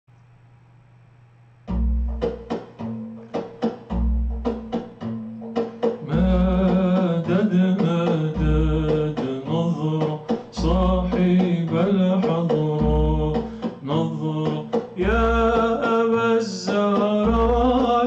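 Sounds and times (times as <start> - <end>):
deep drum beat: 1.7 - 18.0
plucked notes: 1.7 - 18.0.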